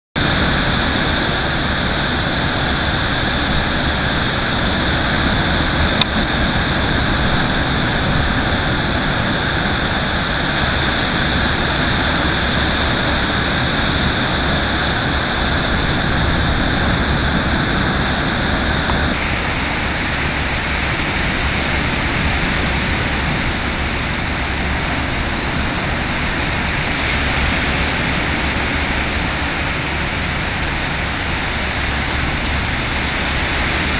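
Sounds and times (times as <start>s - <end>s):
rough sea roar: 0.2s - 33.9s
wind: 0.2s - 33.9s.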